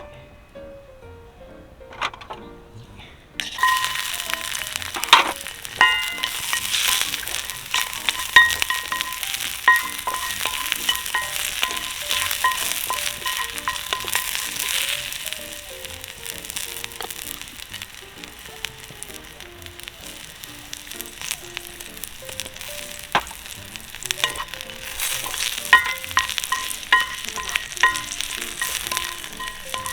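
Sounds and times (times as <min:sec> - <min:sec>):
food sizzling in oil: 0:03.4 - 0:29.9
utensils knocking on pan: 0:03.4 - 0:29.9.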